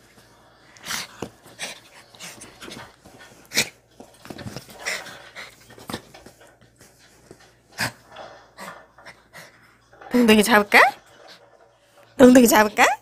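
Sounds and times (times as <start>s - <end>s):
dog panting: 0.7s - 12.7s.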